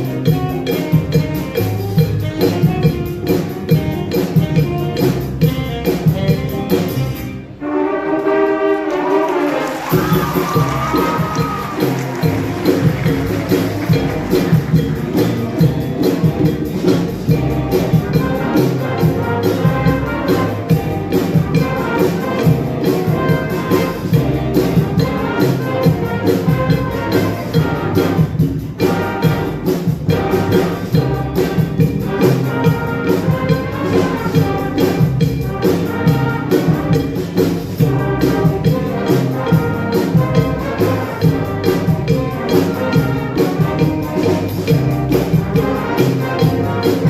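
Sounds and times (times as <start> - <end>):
steady percussion beat: 0.0 - 7.4, 9.4 - 47.0
live ensemble music: 0.0 - 47.0.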